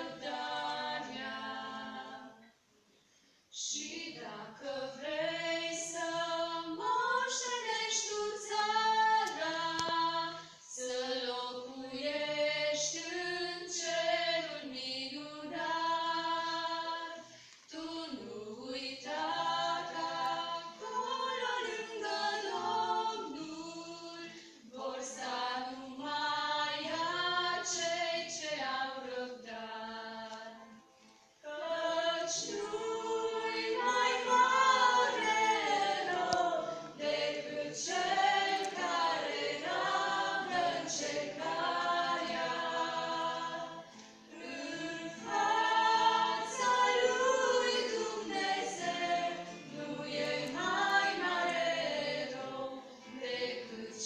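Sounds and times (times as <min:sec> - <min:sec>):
women singing a hymn: 0:00.0 - 0:02.6, 0:03.5 - 0:30.8, 0:31.4 - 0:54.0.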